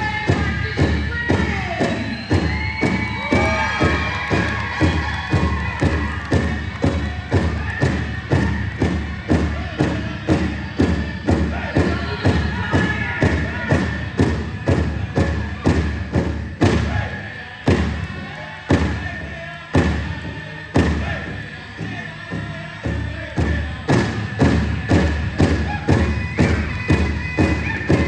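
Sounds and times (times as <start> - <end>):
drum beating steadily: 0.0 - 28.0
people singing: 0.0 - 28.0.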